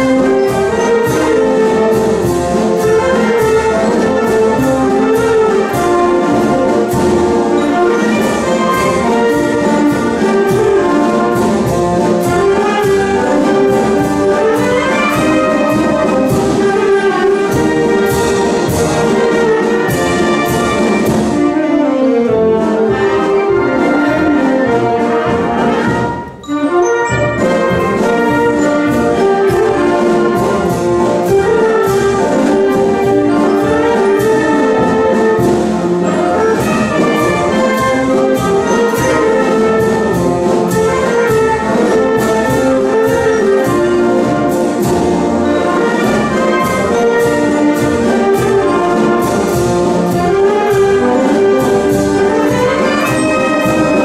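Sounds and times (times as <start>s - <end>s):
percussion beat: 0.0s - 21.6s, 22.6s - 54.0s
wind band playing a march: 0.0s - 54.0s.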